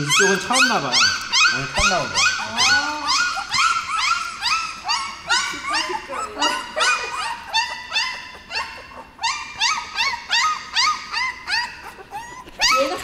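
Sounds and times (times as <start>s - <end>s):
puppies whimpering: 0.0s - 13.0s.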